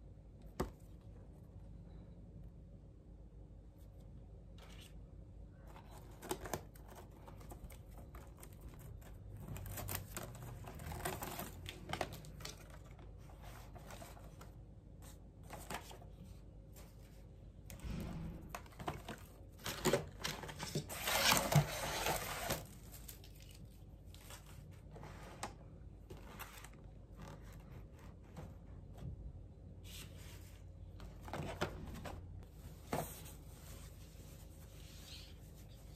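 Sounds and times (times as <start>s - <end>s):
paper and cardboard rustling: 5.6s - 29.0s, 29.8s - 35.9s.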